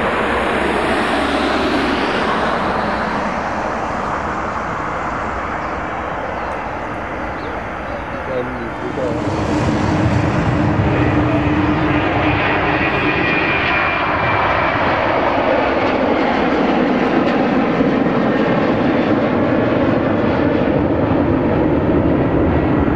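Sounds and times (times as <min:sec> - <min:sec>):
jet engines at takeoff thrust: 0:00.0 - 0:22.9.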